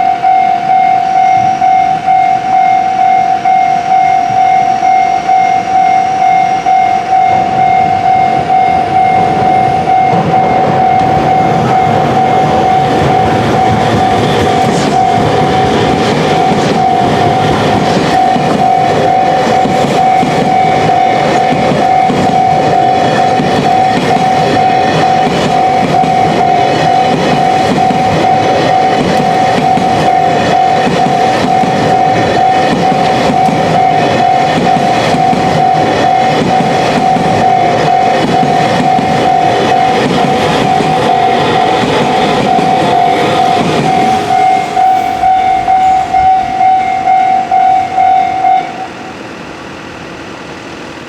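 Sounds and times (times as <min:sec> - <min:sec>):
level-crossing warning bell ringing: 0:00.0 - 0:51.0
train wheels clattering on rails: 0:00.0 - 0:51.0.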